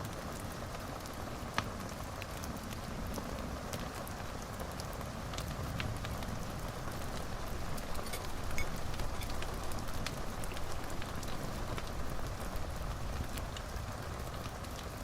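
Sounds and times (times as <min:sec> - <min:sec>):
fire crackling and popping: 0:00.0 - 0:15.0
fire hiss and low rumble: 0:00.0 - 0:15.0.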